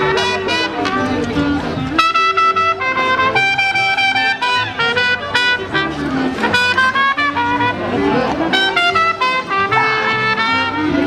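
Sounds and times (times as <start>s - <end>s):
brass music melody: 0.0s - 11.0s.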